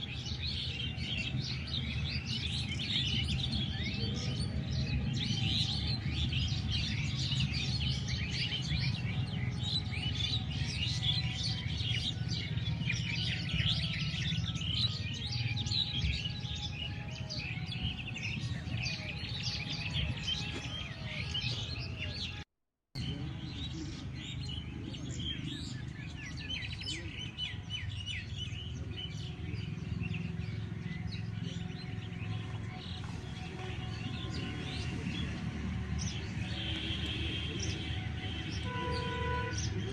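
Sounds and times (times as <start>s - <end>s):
chorus of birds chirping: 0.0s - 22.4s, 23.0s - 39.9s.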